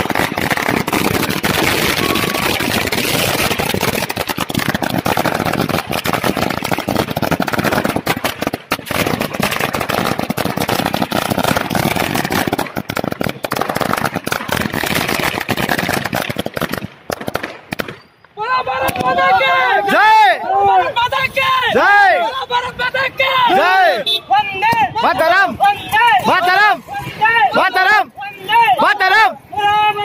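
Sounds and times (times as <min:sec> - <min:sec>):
firecrackers crackling: 0:00.0 - 0:30.0.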